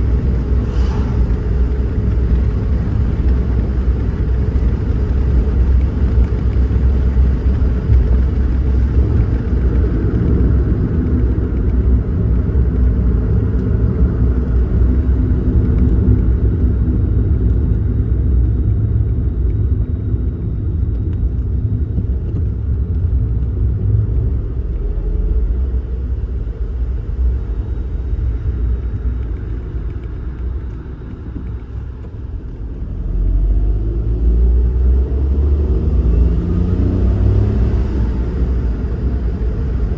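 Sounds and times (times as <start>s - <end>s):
car driving: 0.0s - 39.9s
road and engine rumble: 0.0s - 39.9s.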